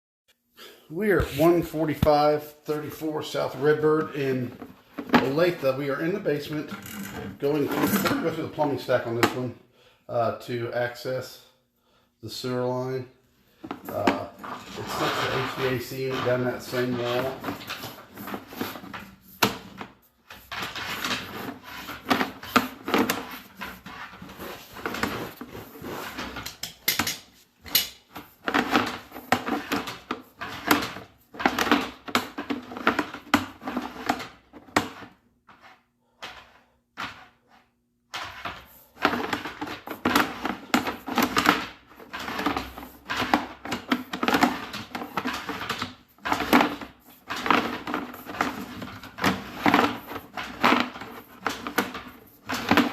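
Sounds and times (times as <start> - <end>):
cable clattering in pipes: 1.2 - 9.4, 13.6 - 34.8, 39.0 - 52.9.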